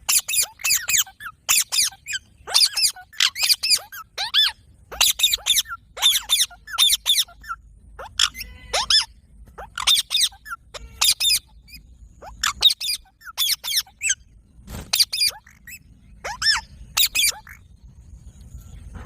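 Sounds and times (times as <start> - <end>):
parrot screeching: 0.0 - 14.2, 14.9 - 17.6.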